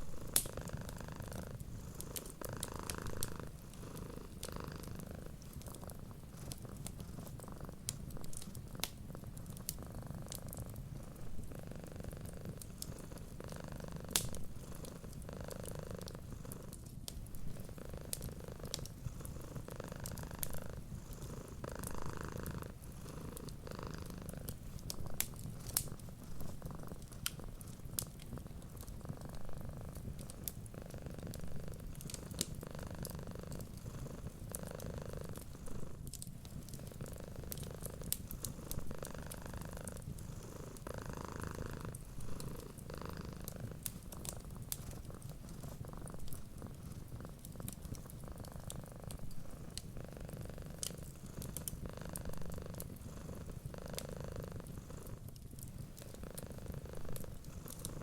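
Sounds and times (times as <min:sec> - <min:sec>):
cat purring: 0:00.0 - 0:58.0
wood fire crackling: 0:00.0 - 0:58.0.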